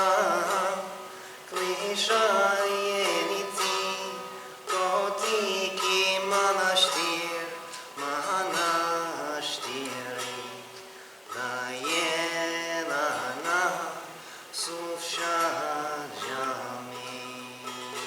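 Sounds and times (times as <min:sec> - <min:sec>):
man singing folk song: 0:00.0 - 0:18.0.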